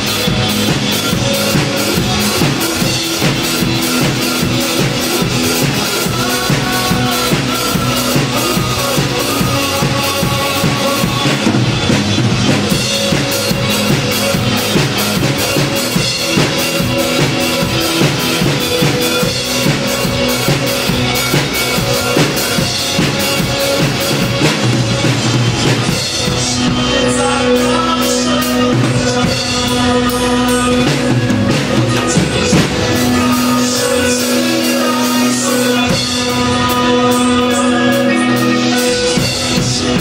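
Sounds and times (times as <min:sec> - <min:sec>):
backing music track: 0:00.0 - 0:40.0
drum kit playing: 0:00.0 - 0:40.0.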